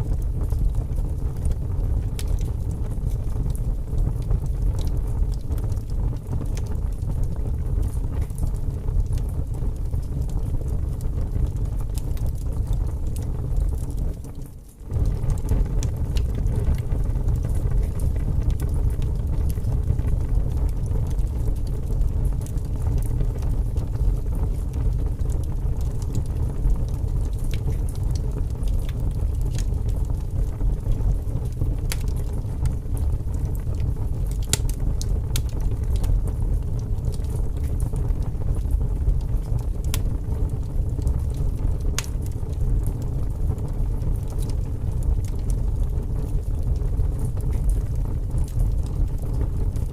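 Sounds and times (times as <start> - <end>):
fire crackling and popping: 0.0 - 49.9
fire flames rumbling: 0.0 - 49.9.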